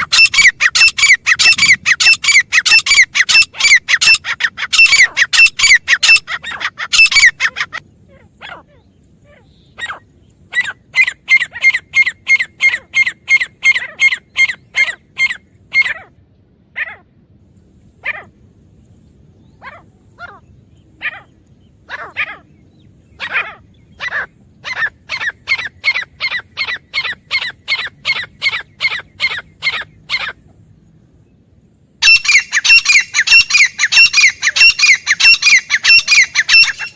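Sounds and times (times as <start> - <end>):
francolin calling: 0.0 - 16.1, 19.4 - 30.4, 32.0 - 36.9.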